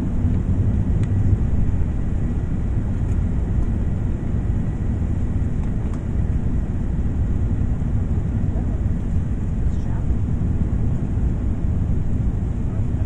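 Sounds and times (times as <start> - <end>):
jet airliner rumble: 0.0 - 13.0.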